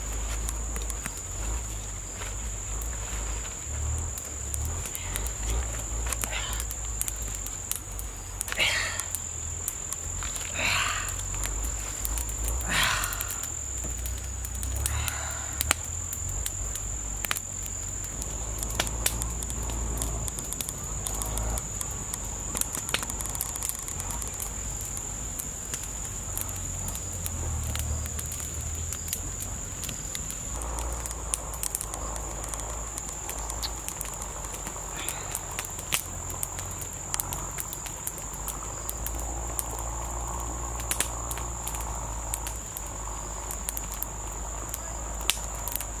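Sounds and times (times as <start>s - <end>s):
campfire crackling: 0.0s - 46.0s
insects calling: 0.0s - 46.0s
rustling of leaves: 0.0s - 46.0s.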